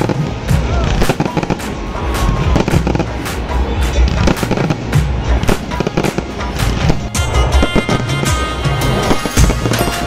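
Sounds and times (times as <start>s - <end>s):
fireworks bursting: 0.0s - 10.0s
fireworks crackling: 0.0s - 10.0s.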